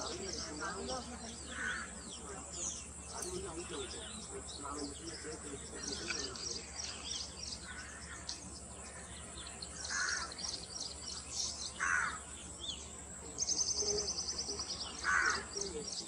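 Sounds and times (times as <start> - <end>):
harsh bird calls: 0.0 - 16.0
rapid high bird trill: 0.0 - 16.0.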